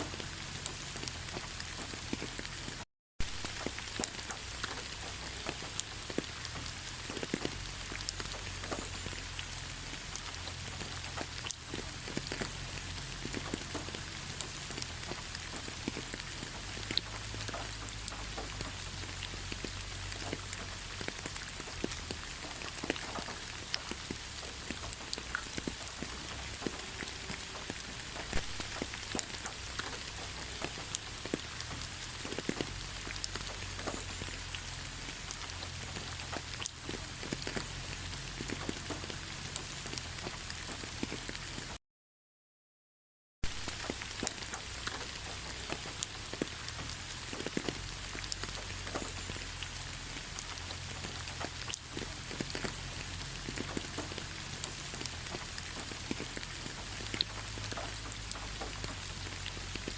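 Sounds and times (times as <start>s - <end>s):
gentle rain falling: 0.0s - 41.8s, 43.4s - 59.9s
raindrops ticking on a surface: 0.0s - 41.8s, 43.4s - 59.9s.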